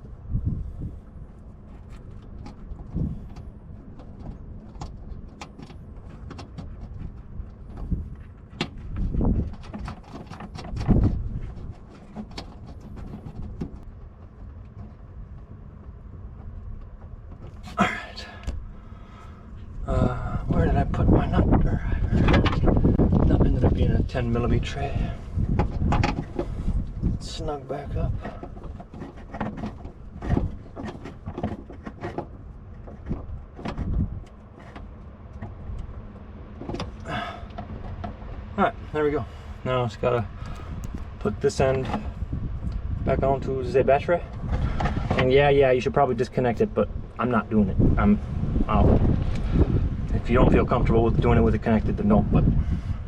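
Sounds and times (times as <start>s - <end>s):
low steady rumble: 0.0s - 53.0s.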